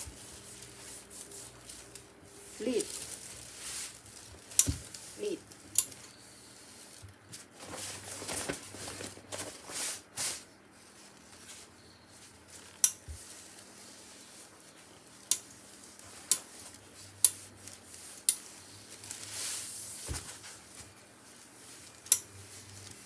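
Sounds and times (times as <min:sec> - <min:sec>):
fabric rustling and swishing: 0:00.0 - 0:05.7, 0:06.6 - 0:23.0.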